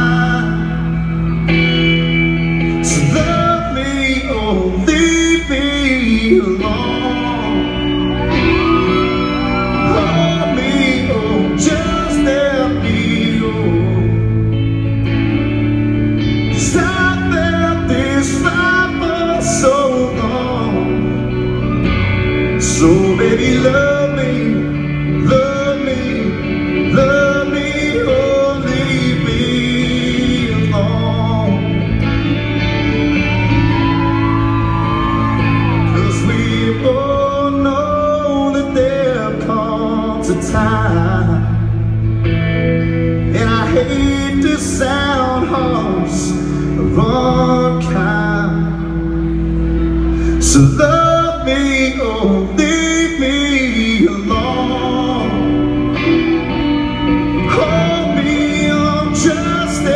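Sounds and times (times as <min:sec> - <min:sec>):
country band playing: 0:00.0 - 0:59.9
man singing: 0:00.0 - 0:59.9.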